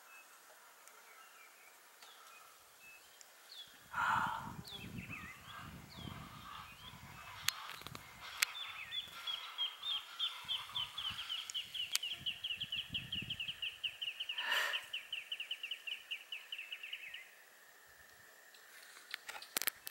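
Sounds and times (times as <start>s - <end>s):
bird chirping: 0.0s - 17.4s.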